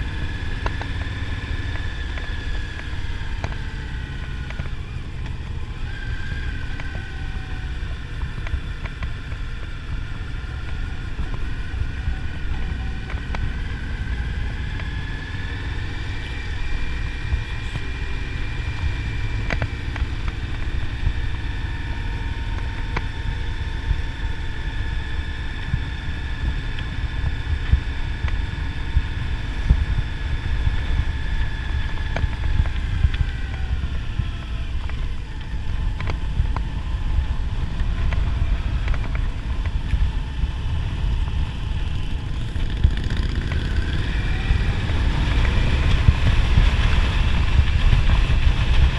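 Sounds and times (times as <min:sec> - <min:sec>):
motorcycle engine cruising: 0:00.0 - 0:48.9
wind rumble on microphone: 0:00.0 - 0:48.9.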